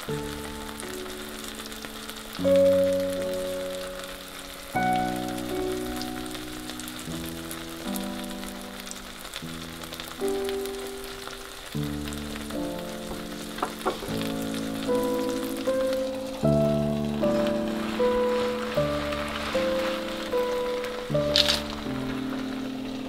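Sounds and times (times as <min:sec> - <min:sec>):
egg sizzling in a pan: 0:00.0 - 0:23.0
slow held chords music: 0:00.0 - 0:23.0.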